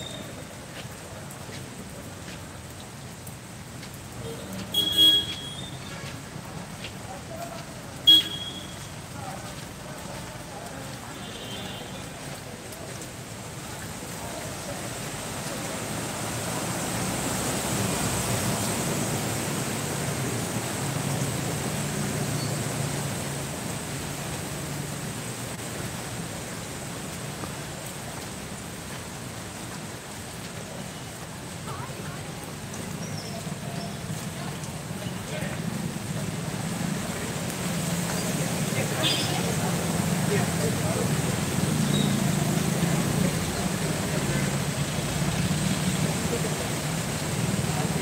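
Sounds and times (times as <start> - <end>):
steady outdoor hiss: 0.0 - 48.0
street noise: 0.0 - 48.0.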